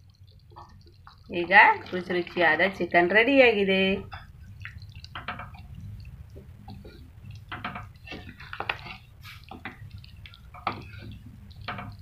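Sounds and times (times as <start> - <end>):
low steady hum: 0.0 - 12.0
spatula stirring pot: 0.0 - 12.0
thick curry boiling with wet plops: 0.0 - 12.0.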